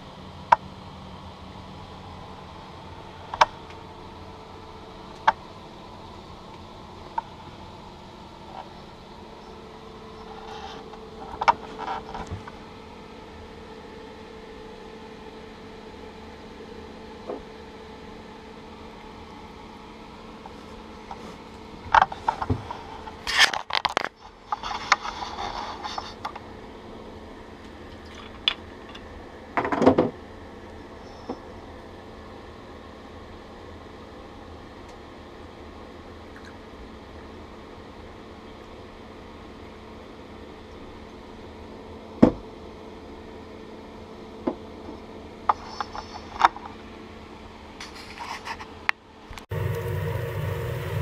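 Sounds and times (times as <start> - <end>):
steady low hum: 0.0 - 48.0, 48.7 - 51.0.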